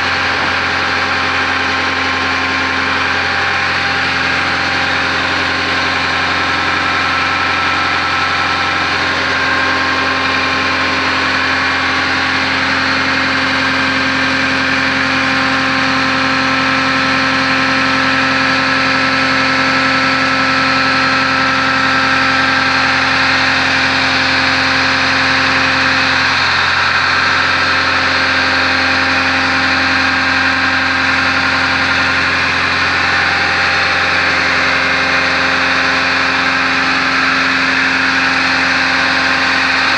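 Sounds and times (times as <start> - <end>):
drill rig engine humming: 0.0 - 39.9.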